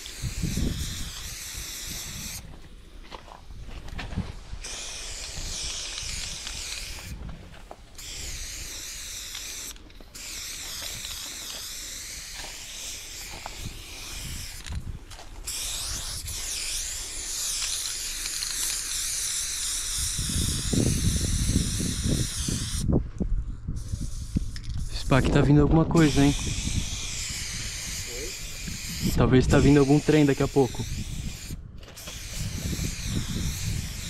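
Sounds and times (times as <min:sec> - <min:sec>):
spray paint can hissing: 0:00.0 - 0:02.5, 0:04.5 - 0:23.0, 0:23.7 - 0:34.0.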